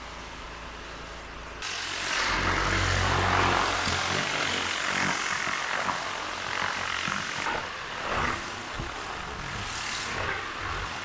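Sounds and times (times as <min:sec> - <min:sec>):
pressure washer engine drone: 0:00.0 - 0:11.0.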